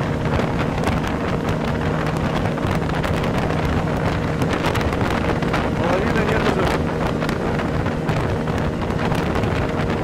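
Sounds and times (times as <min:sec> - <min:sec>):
outboard motor running: 0:00.0 - 0:10.0
wind buffeting microphone: 0:00.0 - 0:10.0.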